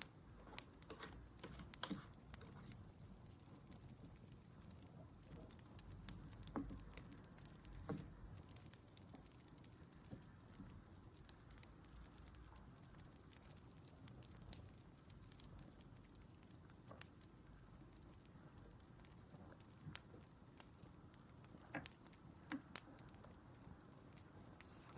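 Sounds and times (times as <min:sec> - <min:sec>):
firewood crackling and popping: 0:00.0 - 0:24.9.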